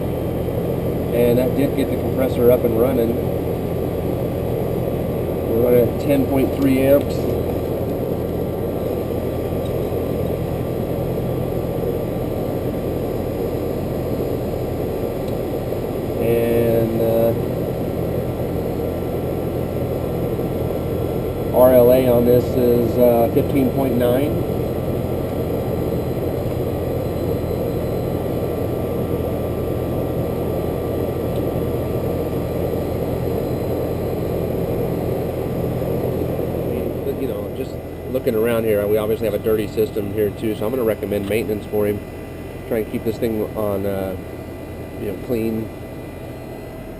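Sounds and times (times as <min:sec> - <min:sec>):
air conditioner compressor humming: 0:00.0 - 0:46.9.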